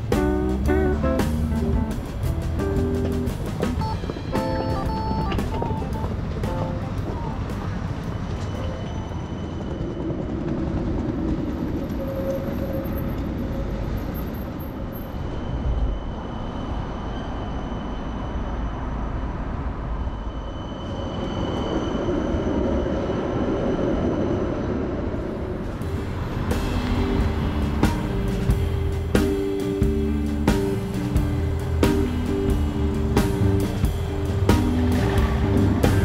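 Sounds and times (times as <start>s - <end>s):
tram wheels and motor rumbling: 0.0s - 36.0s.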